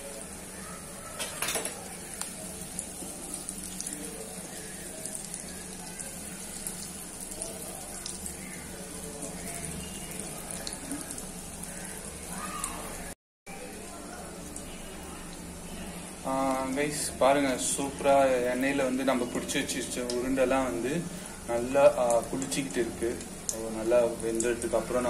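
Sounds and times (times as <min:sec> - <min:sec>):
meatballs sizzling in hot oil: 0:00.0 - 0:13.1, 0:13.9 - 0:25.0.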